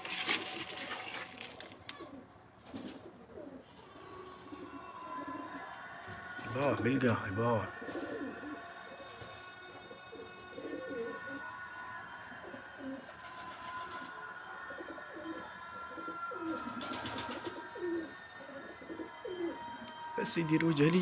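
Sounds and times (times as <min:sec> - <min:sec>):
pigeons cooing: 0:01.9 - 0:20.0.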